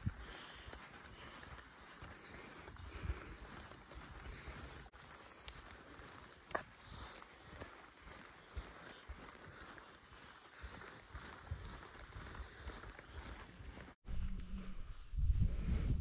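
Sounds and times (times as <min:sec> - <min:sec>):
footsteps on trail: 0:00.0 - 0:14.0.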